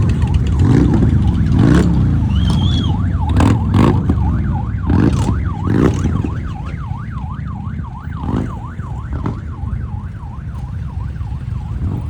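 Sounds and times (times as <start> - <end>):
low rumble of engines: 0.0 - 12.0
siren warbling rapidly: 0.0 - 12.0.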